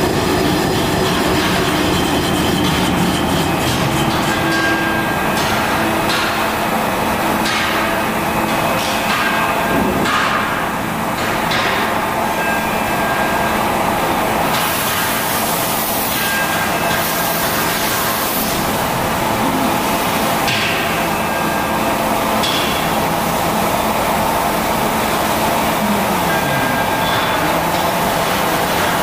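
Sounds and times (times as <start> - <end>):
lathe cutting metal: 0.0 - 29.0.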